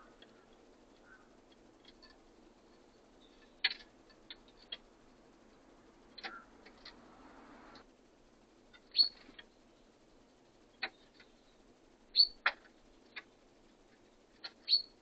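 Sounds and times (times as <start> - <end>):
small birds calling: 0.0 - 5.0, 6.1 - 7.0, 8.7 - 15.0.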